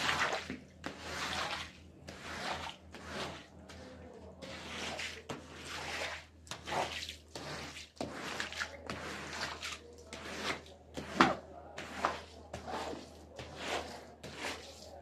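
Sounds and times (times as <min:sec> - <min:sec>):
squeegee wet swishing on rug: 0:00.0 - 0:15.0.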